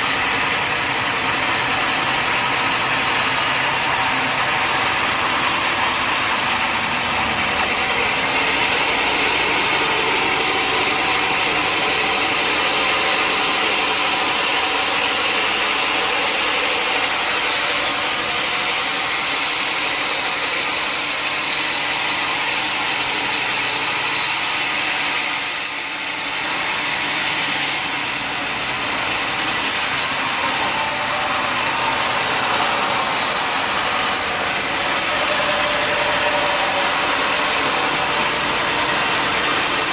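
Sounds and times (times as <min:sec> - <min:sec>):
mill motor running: 0:00.0 - 0:39.9
saw blade rasping through log: 0:00.0 - 0:39.9.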